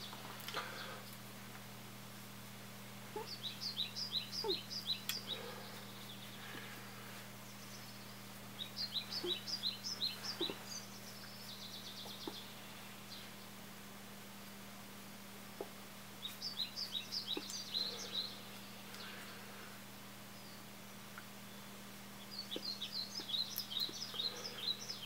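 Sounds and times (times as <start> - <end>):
low electrical hum: 0.0 - 25.0
songbird chirping: 2.9 - 25.0.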